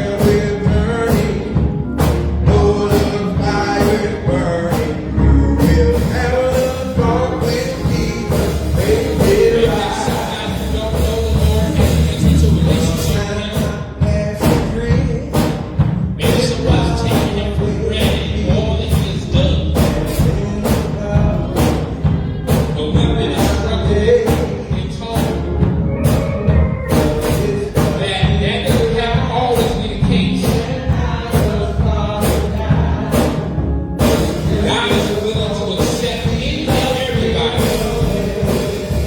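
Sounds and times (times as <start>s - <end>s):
drums beating: 0.0s - 39.0s
gospel band music: 0.0s - 39.0s.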